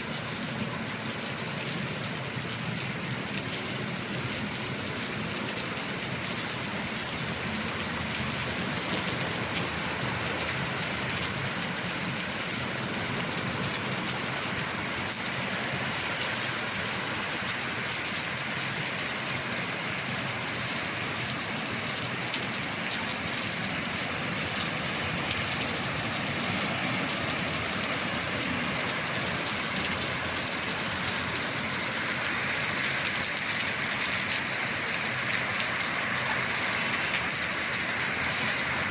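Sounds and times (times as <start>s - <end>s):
rain falling and pattering: 0.0s - 38.9s.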